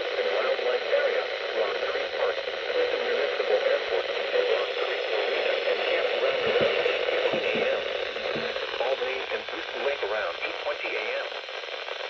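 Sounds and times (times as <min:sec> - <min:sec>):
radio static hiss: 0:00.0 - 0:12.0
faint announcer voice: 0:00.2 - 0:11.3.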